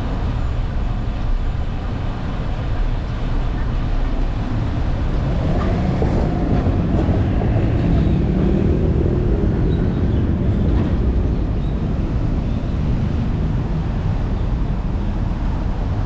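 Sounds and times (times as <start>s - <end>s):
wind and road noise rumble: 0.0s - 16.0s.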